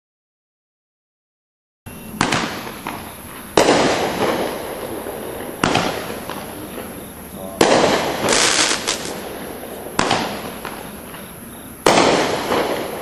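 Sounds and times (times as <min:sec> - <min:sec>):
firework bangs: 0:01.9 - 0:13.0.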